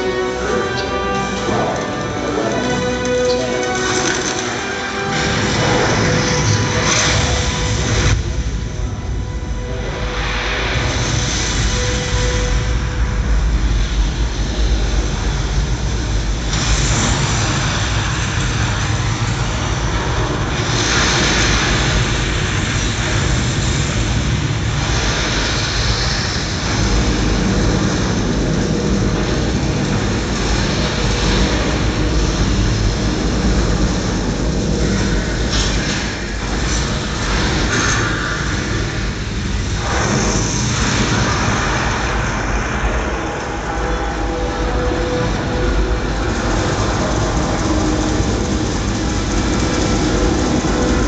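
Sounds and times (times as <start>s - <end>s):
rocket launch deep rumble: 5.1s - 51.0s.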